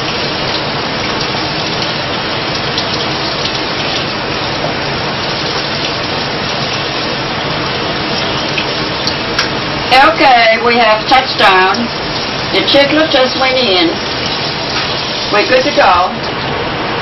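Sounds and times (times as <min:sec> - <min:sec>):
tap water running over a lid: 0:00.0 - 0:16.6.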